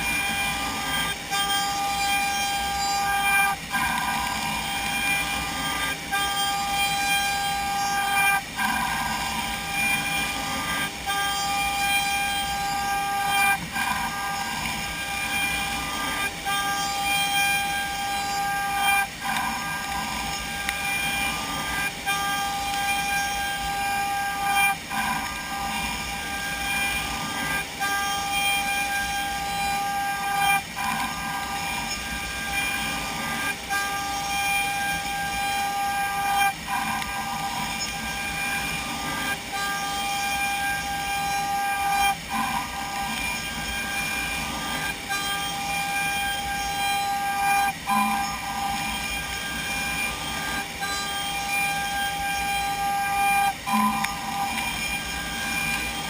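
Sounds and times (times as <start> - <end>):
router spindle whining: 0.0 - 56.0.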